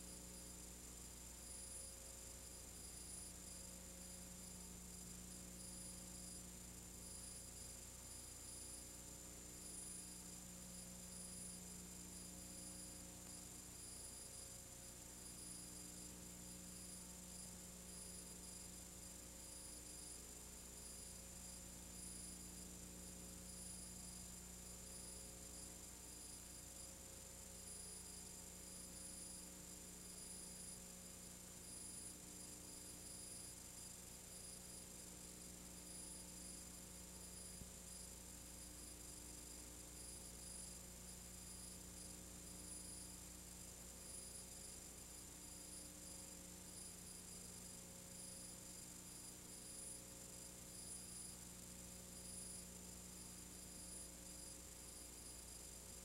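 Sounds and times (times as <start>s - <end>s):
faint high whine: 0.0s - 56.0s
low electrical hum: 0.0s - 56.0s.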